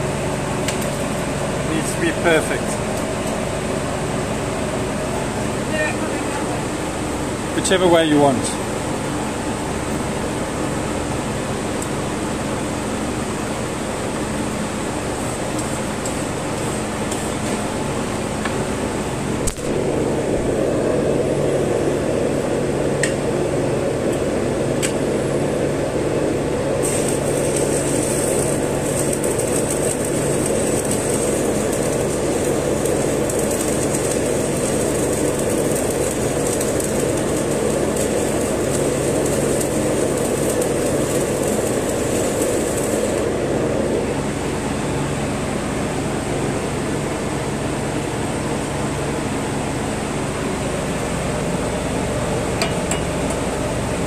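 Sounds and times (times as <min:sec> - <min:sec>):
welding arc crackling: 0:00.0 - 0:23.3, 0:23.9 - 0:45.8.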